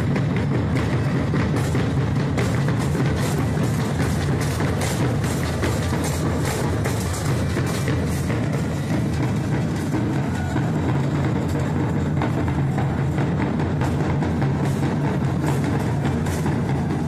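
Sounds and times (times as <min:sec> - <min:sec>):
hand drums beating a rhythm: 0:00.0 - 0:17.0.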